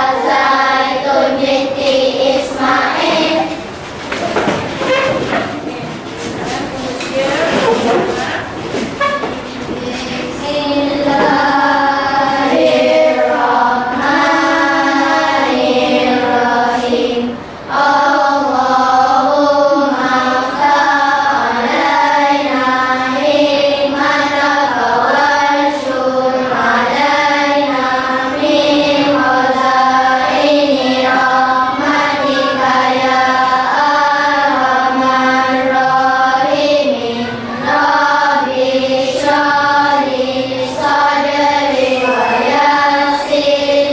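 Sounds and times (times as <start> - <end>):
children chanting a prayer in unison: 0.0 - 8.8, 9.6 - 43.9.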